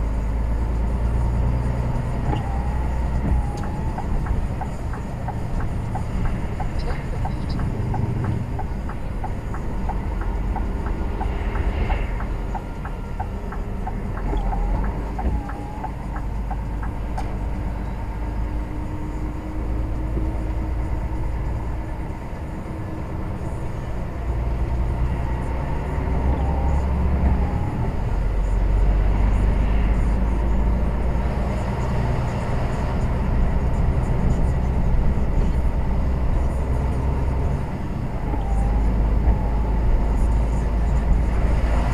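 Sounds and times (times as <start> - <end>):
lorry engine and road rumble: 0.0 - 41.9.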